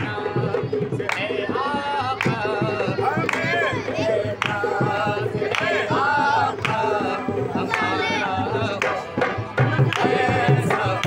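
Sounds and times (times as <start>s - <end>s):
barrel drum beat: 0.0s - 11.0s
man singing: 0.0s - 11.0s.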